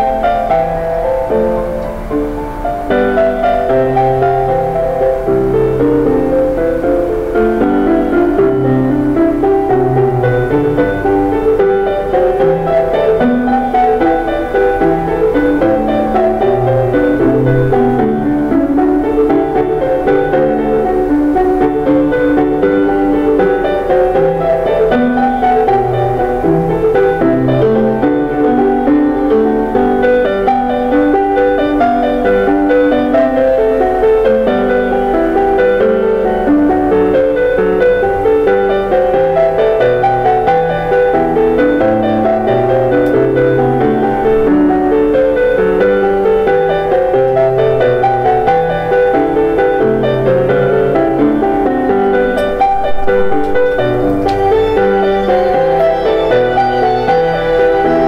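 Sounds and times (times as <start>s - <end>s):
piano piece: 0.0s - 58.0s.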